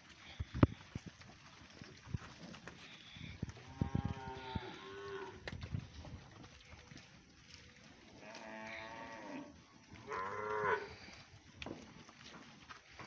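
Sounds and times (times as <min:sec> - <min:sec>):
farm animal calling: 0:00.0 - 0:13.0.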